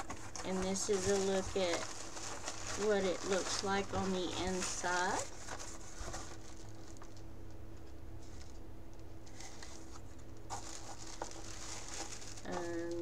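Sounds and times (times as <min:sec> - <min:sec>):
cardboard box and paper rustling: 0:00.0 - 0:07.1, 0:09.3 - 0:13.0
low electrical hum: 0:00.0 - 0:13.0.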